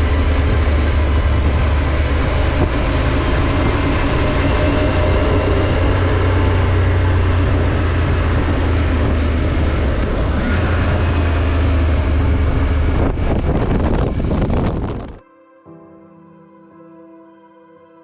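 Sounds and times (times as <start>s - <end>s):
motorcycle engine running: 0.0s - 15.2s
wind and road noise: 0.0s - 15.2s.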